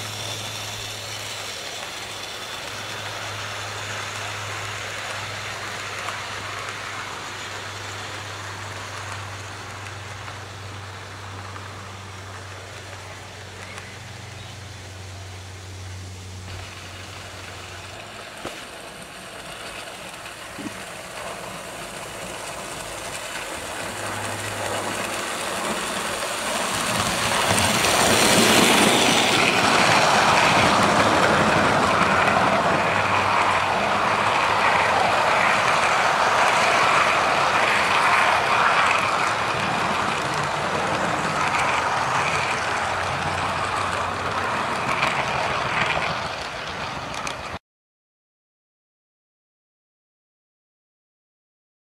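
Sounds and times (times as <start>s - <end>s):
model train rolling on track: 0.0s - 47.6s.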